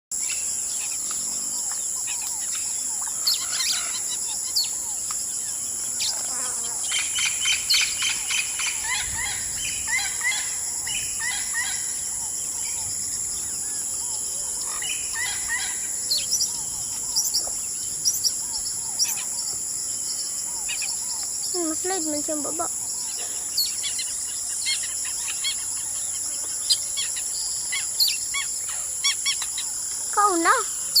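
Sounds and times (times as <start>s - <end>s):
high-pitched insect drone: 0.2s - 31.0s.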